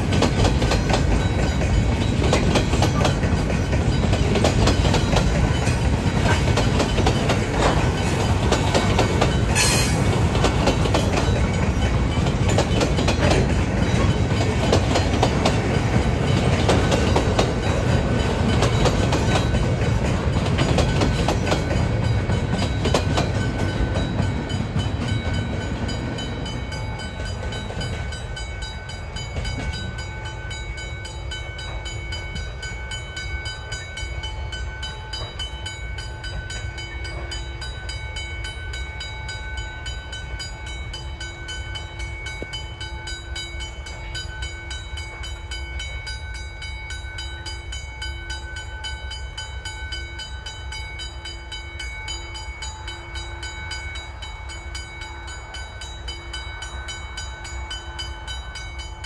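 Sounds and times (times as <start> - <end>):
level crossing bells ringing: 0.0 - 59.0
train rumbling: 0.0 - 59.0.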